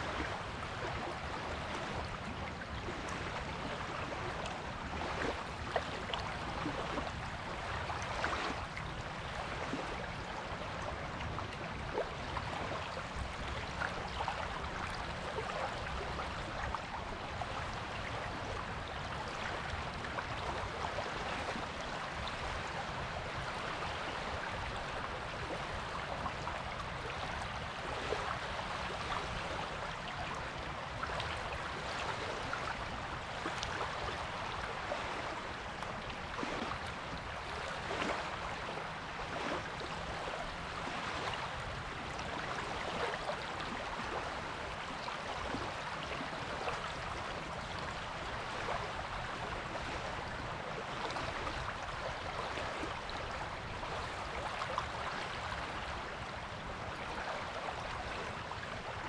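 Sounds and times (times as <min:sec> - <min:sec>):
waves washing on a beach: 0:00.0 - 0:59.0.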